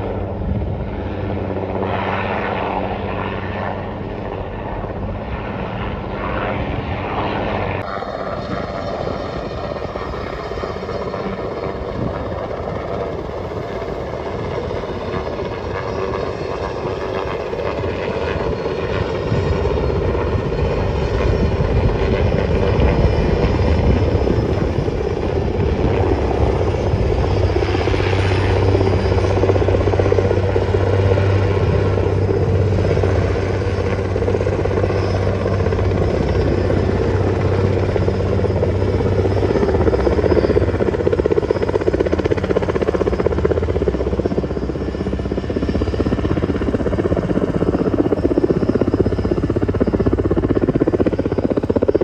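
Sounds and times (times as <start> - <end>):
helicopter rotor and engine drone: 0.0 - 52.0.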